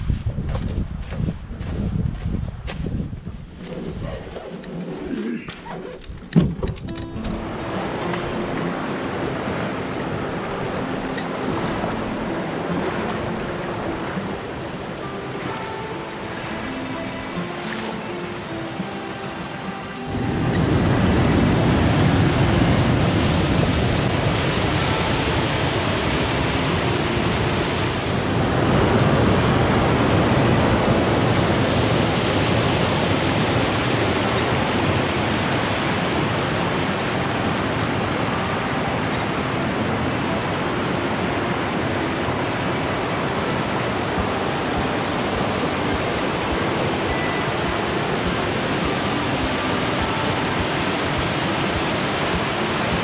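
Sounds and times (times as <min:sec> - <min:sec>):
stream water rushing over rock: 0:06.6 - 0:53.0.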